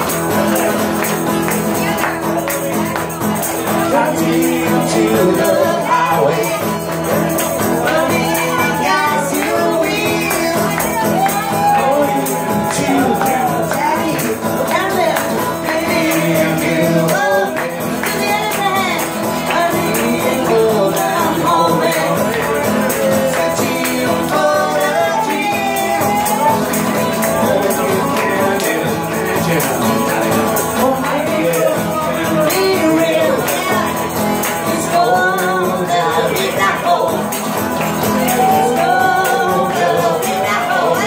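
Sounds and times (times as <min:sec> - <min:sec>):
man singing along: 0:00.0 - 0:41.0
strummed acoustic guitar: 0:00.0 - 0:41.0
tambourine beating: 0:00.0 - 0:41.0
woman singing: 0:03.8 - 0:07.0, 0:07.6 - 0:28.7, 0:30.8 - 0:41.0.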